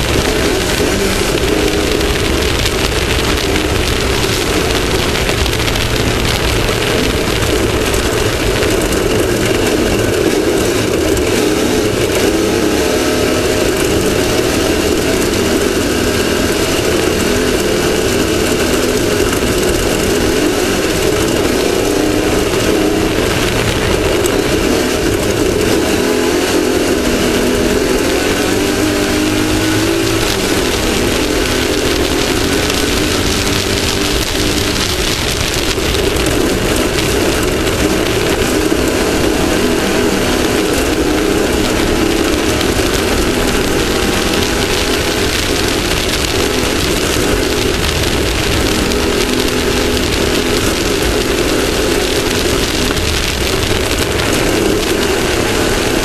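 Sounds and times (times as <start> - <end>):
race vehicle engine revving: 0.0 - 56.0
rough terrain rattle: 0.0 - 56.0.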